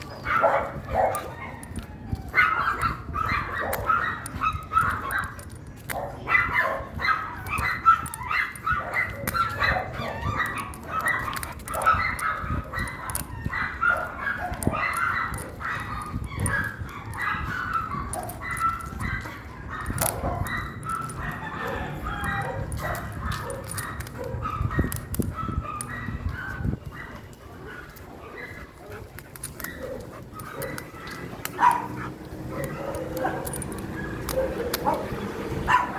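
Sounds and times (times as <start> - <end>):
dog barking and yipping: 0.0 - 35.9.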